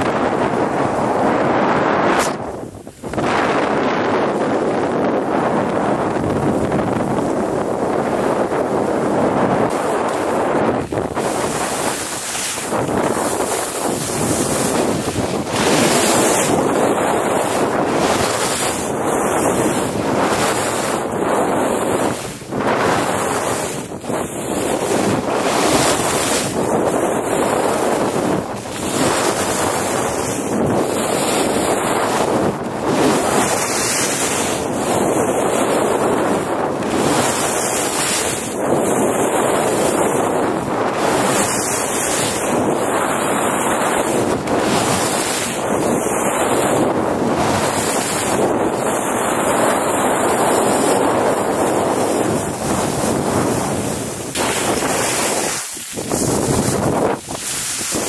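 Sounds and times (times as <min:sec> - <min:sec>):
wind rushing over microphone: 0:00.0 - 0:58.0
skis carving on snow: 0:03.2 - 0:58.0.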